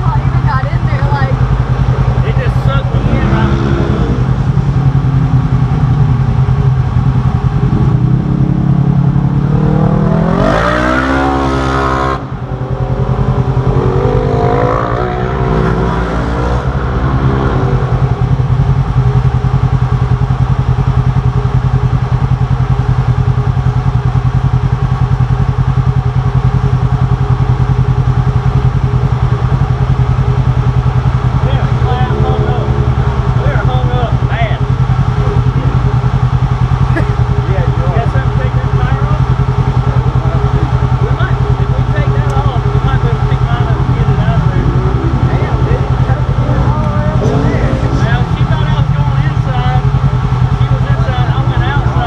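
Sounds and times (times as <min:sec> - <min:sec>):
second engine rising and falling: 0:00.0 - 0:21.5, 0:25.8 - 0:52.0
engine idling: 0:00.0 - 0:52.0
engine revving: 0:00.0 - 0:52.0.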